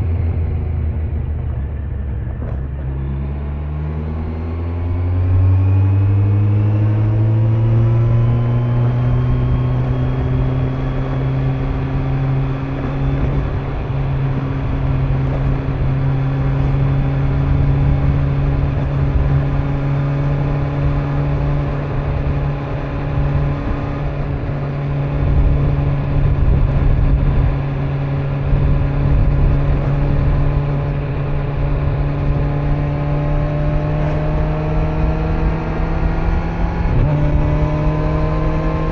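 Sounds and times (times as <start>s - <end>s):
motorcycle engine cruising: 0.0s - 38.9s
wind and road rumble: 0.0s - 38.9s.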